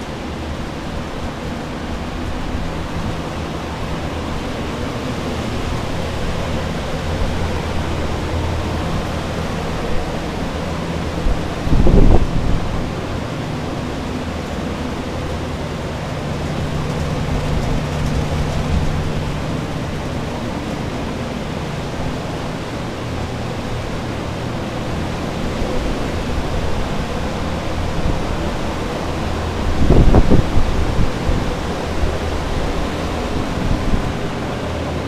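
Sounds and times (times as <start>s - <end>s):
air movers rushing: 0.0s - 35.0s
dehumidifier motor hum: 0.0s - 35.0s.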